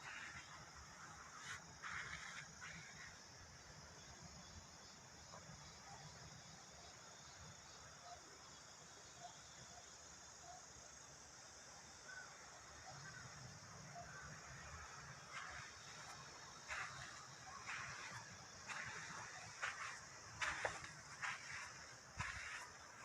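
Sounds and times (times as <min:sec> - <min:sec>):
outdoor ambience with high hiss: 0:00.0 - 0:23.0.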